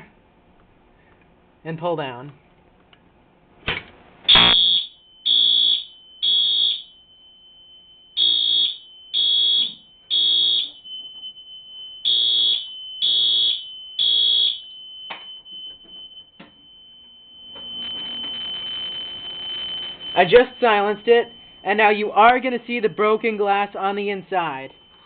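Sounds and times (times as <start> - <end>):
fire alarm horn blasts: 4.3 - 25.0
thin steady high tone: 4.9 - 25.0.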